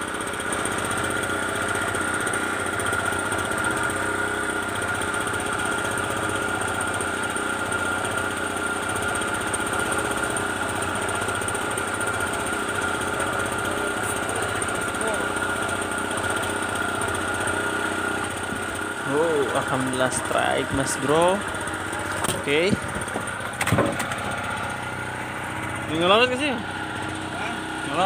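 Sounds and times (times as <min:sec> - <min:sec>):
small petrol engine running: 0:00.0 - 0:28.0.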